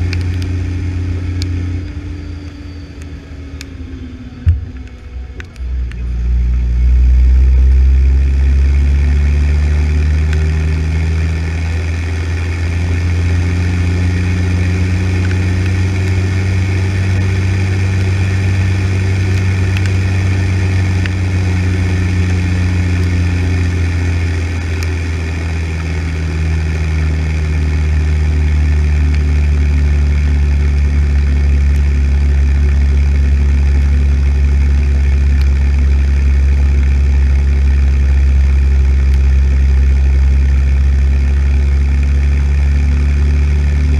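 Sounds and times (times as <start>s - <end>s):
tractor diesel engine droning: 0.0s - 43.9s.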